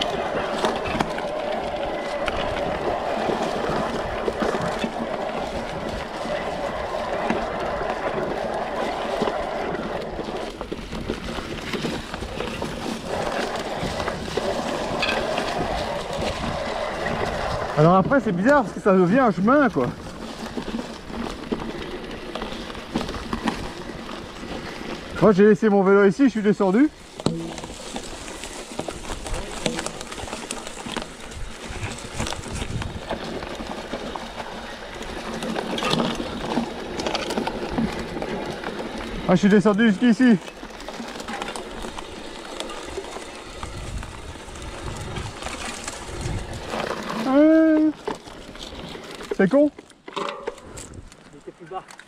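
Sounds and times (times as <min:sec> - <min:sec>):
bike knocks and rattles: 0:00.0 - 0:52.0
bike tyres through undergrowth: 0:00.0 - 0:52.0
plants brushing against bike: 0:00.0 - 0:52.0.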